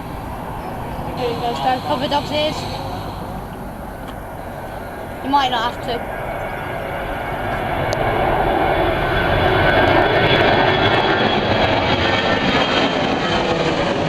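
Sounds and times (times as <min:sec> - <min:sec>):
high fan whine: 0:00.0 - 0:14.0
jet engines at takeoff power: 0:00.0 - 0:14.0.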